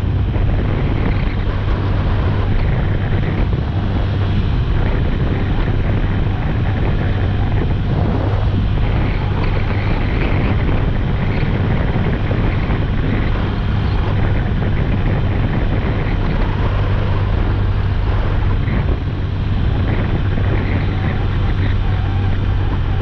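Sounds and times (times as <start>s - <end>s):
motorcycle engine humming: 0.0s - 23.0s
wind on microphone: 0.0s - 23.0s.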